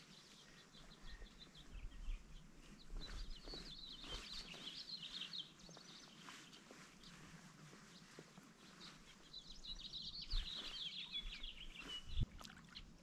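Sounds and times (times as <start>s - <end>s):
small bird chirping: 0.0s - 7.2s, 7.9s - 13.0s.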